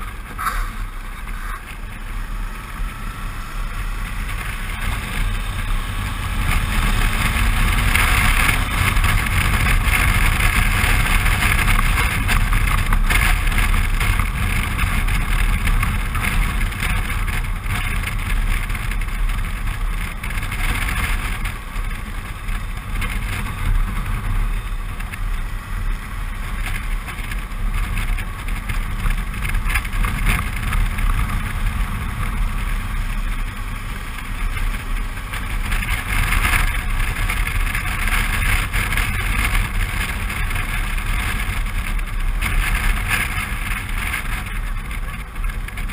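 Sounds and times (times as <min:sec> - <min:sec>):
motorcycle engine cruising: 0:00.0 - 0:45.9
road noise: 0:00.0 - 0:45.9.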